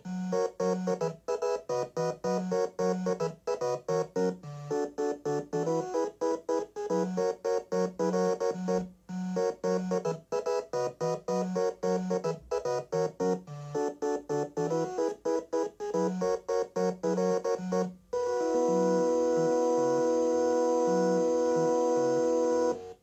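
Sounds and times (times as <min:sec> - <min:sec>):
electronic computer music: 0:00.0 - 0:23.0.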